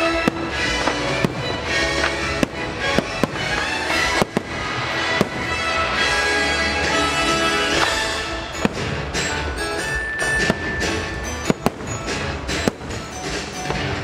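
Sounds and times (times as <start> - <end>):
fireworks bangs: 0.0 - 14.0
loud show music: 0.0 - 14.0.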